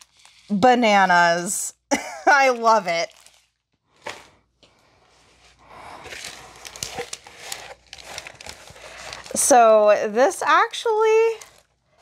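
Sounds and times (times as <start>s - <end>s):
plastic sleeve rustling and crinkling: 0.0s - 1.4s, 2.2s - 4.4s, 5.0s - 12.0s.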